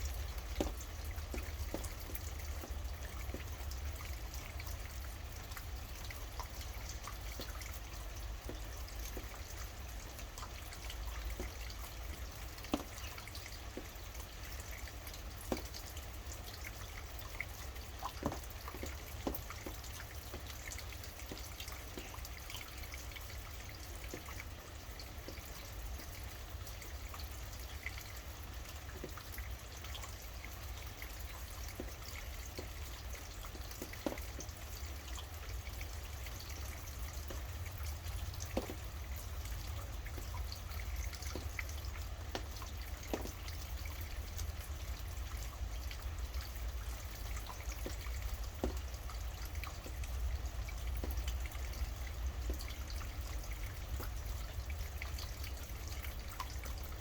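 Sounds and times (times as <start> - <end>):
steady rain falling: 0.0 - 57.0
water drops dripping: 0.0 - 57.0.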